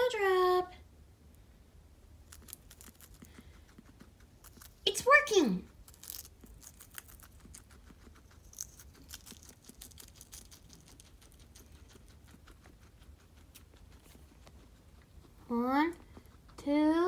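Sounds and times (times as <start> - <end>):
guinea pig chewing lettuce: 2.0 - 17.0.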